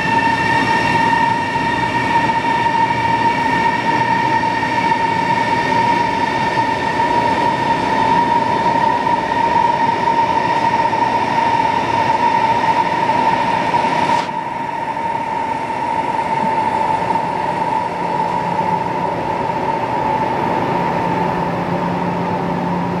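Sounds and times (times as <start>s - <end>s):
train running: 0.0s - 23.0s
train rushing past: 0.0s - 23.0s.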